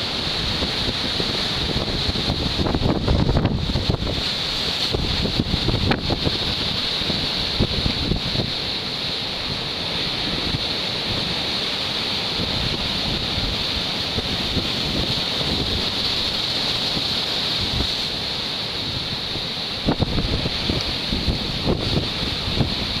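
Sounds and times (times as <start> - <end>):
wind buffeting the microphone: 0.0 - 8.8, 12.3 - 23.0
sea surf hissing: 0.0 - 23.0.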